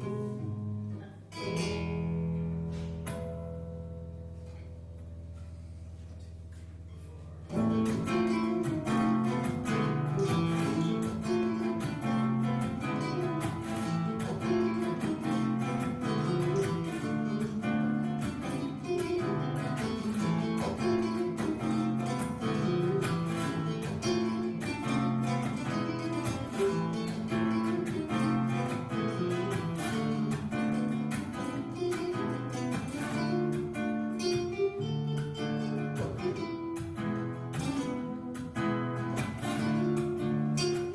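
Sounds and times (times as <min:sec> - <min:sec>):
acoustic guitar music: 0:00.0 - 0:40.9.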